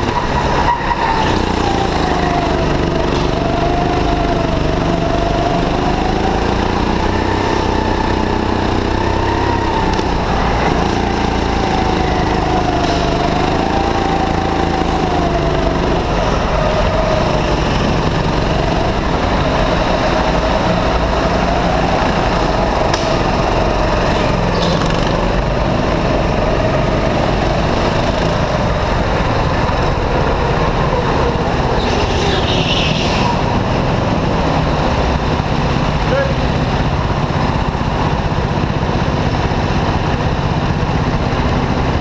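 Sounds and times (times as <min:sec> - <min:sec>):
go-kart engine revving: 0:00.0 - 0:42.0.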